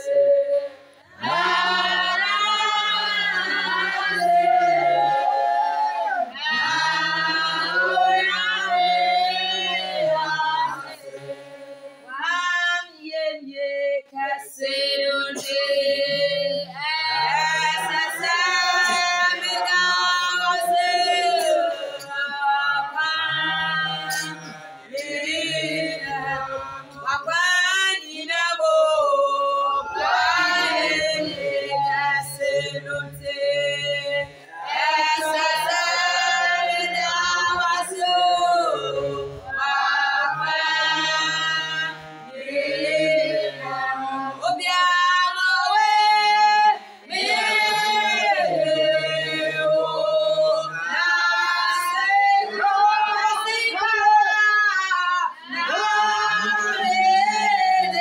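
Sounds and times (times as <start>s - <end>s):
group singing a worship song: 0.0s - 58.0s.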